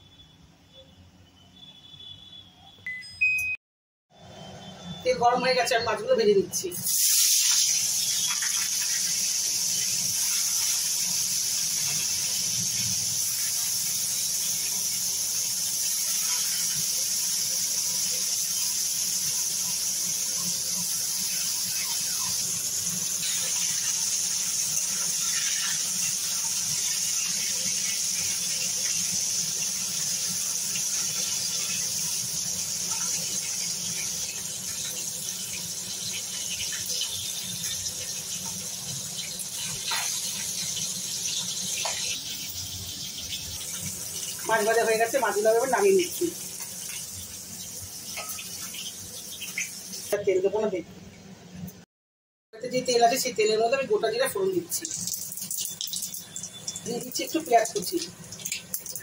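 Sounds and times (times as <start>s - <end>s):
fish sizzling in hot oil: 6.8s - 50.3s, 53.9s - 59.0s.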